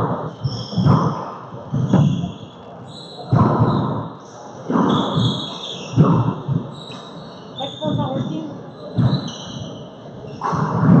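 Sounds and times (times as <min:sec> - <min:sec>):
sneaker squeaks on hardwood floor: 0:00.3 - 0:04.1, 0:04.7 - 0:10.5.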